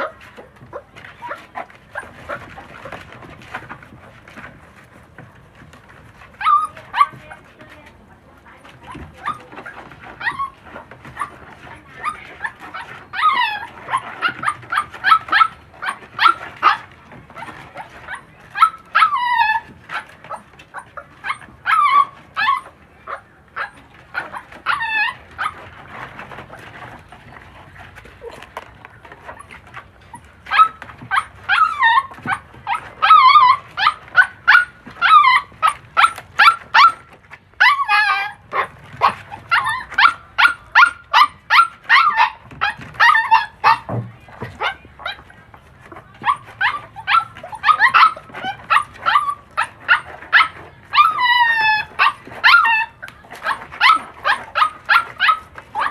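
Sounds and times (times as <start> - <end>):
puppies yipping and barking: 0.0 - 7.8, 8.6 - 55.9.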